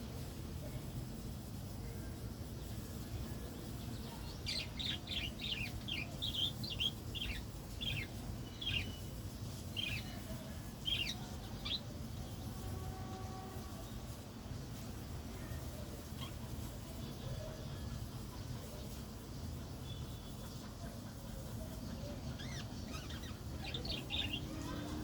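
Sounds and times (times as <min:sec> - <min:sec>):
small birds chirping: 0:02.6 - 0:12.7, 0:14.7 - 0:25.0.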